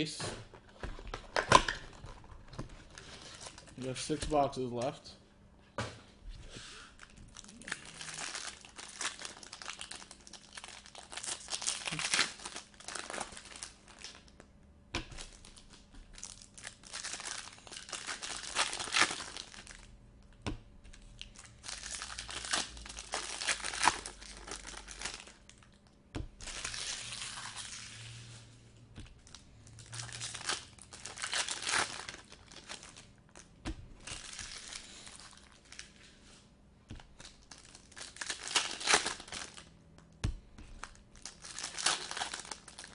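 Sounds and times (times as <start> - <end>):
foil wrappers crinkling and tearing: 1.0 - 5.0, 6.9 - 14.5, 15.1 - 19.9, 20.9 - 28.4, 29.2 - 36.2, 37.0 - 39.7, 40.7 - 42.9.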